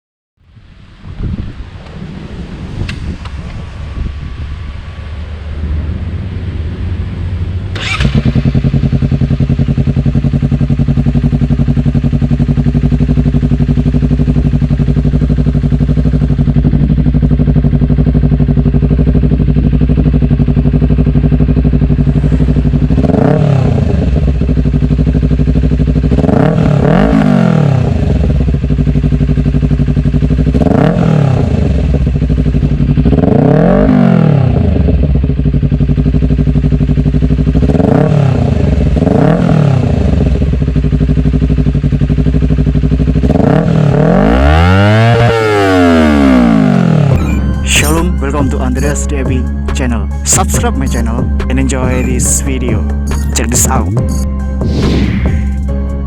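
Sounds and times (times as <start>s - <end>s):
motorcycle engine idling and revving: 0.5s - 56.0s.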